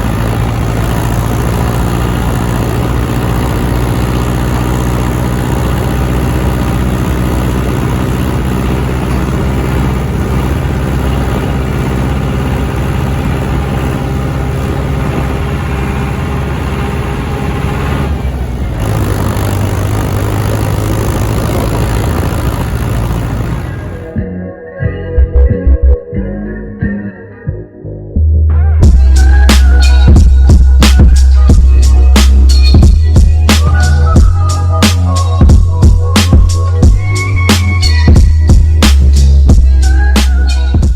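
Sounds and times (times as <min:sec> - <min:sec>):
tractor diesel engine running: 0:00.0 - 0:24.2, 0:28.8 - 0:40.9.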